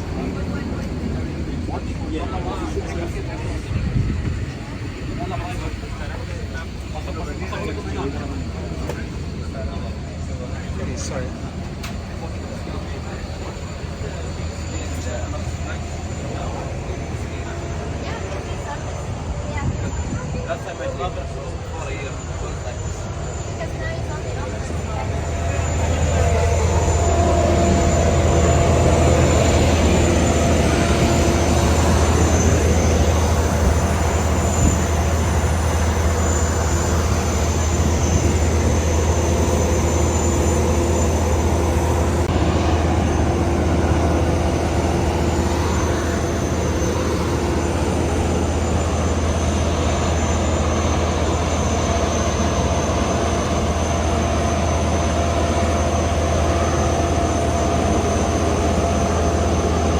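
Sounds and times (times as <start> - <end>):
aircraft engines rumbling: 0.0 - 59.9
engine whine: 0.0 - 59.9.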